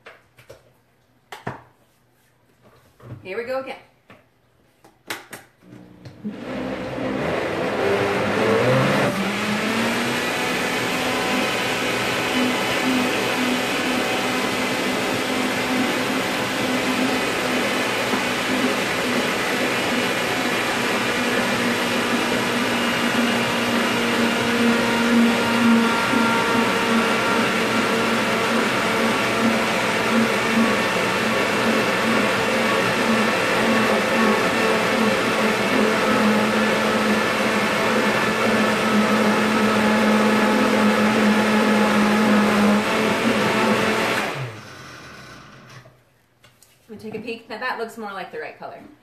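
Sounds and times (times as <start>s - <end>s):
blender running: 5.6s - 45.8s
blender motor winding down: 5.7s - 45.9s.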